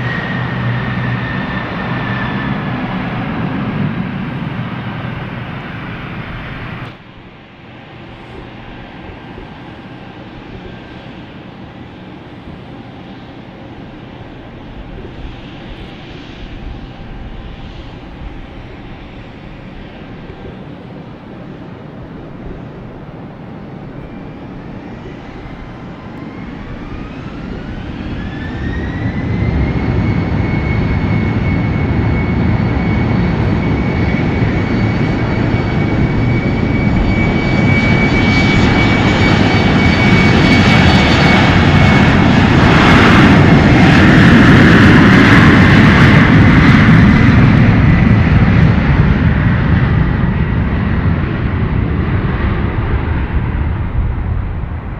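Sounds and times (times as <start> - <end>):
airliner engines spooling up: 0.0 - 54.9.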